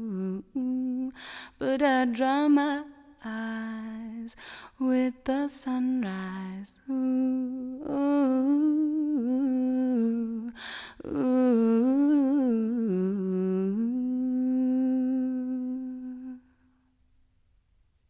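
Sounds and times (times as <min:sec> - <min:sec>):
woman singing wordless hum: 0:00.0 - 0:16.5.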